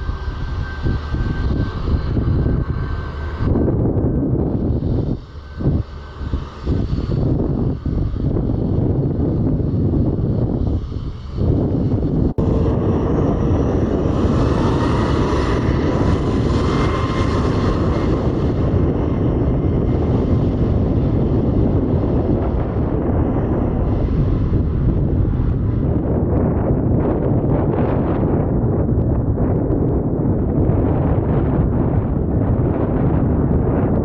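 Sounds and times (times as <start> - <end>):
jet engine rumble with whine: 0.0 - 34.0
wind buffeting microphone: 0.0 - 34.0.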